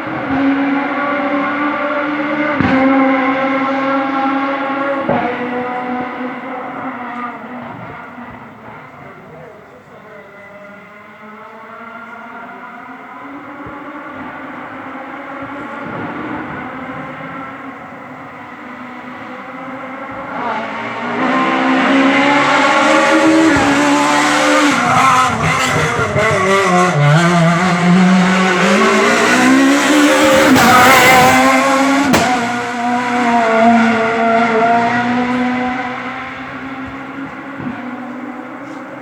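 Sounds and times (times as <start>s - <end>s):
rally car engine at high revs: 0.0s - 39.0s.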